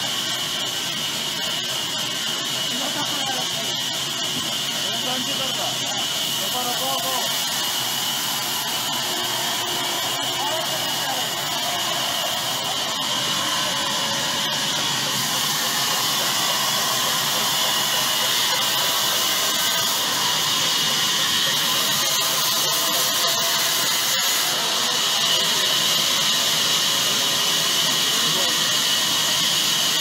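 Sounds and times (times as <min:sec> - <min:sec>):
band saw running: 0:00.0 - 0:30.0.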